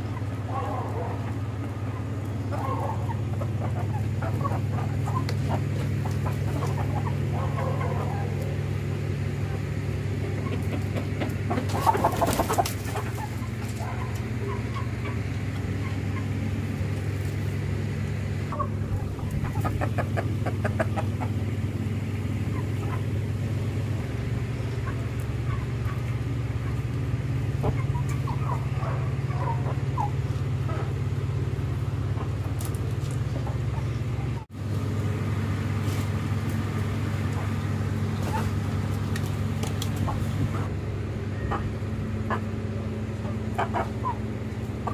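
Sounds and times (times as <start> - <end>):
chickens clucking: 0.0 - 44.9
steady low hum: 0.0 - 44.9.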